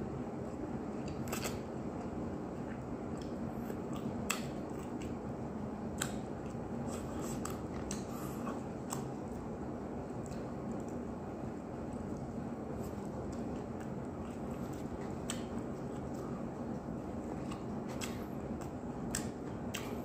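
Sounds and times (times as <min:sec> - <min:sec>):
steady low hum: 0:00.0 - 0:20.0
person chewing crispy food: 0:01.0 - 0:11.2, 0:11.9 - 0:20.0.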